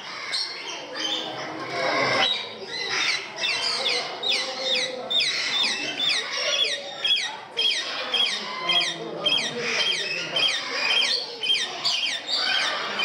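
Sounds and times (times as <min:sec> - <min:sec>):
parrots chirping: 0:00.0 - 0:13.0.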